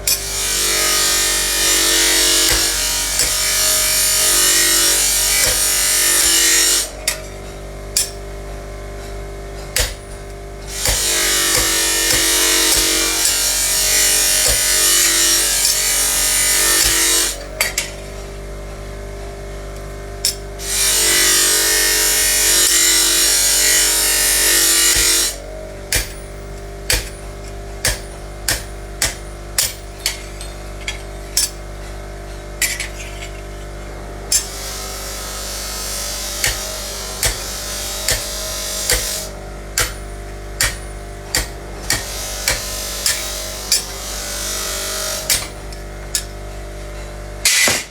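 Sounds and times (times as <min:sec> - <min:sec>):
power tool whining: 0:00.0 - 0:07.2, 0:09.8 - 0:17.9, 0:20.6 - 0:31.8, 0:32.4 - 0:47.9
steady background hum: 0:00.0 - 0:47.9.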